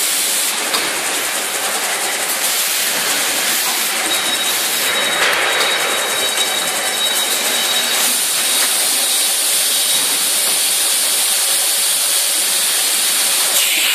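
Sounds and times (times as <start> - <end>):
baling machine hiss and whir: 0.0 - 13.9.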